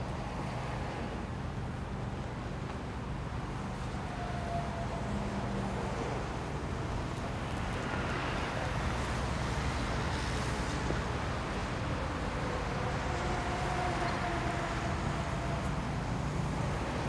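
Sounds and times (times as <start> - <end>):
low road traffic rumble: 0.0 - 17.0.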